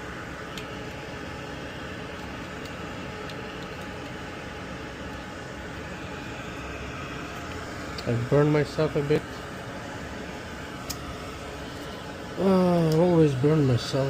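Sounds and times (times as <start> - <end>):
fan hum and hiss: 0.0 - 14.0.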